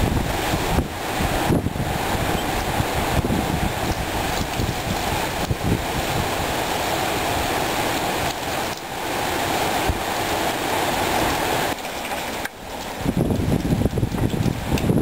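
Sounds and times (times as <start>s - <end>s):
hurricane wind gusting through trees: 0.0s - 15.0s
wind buffeting the microphone: 0.0s - 15.0s.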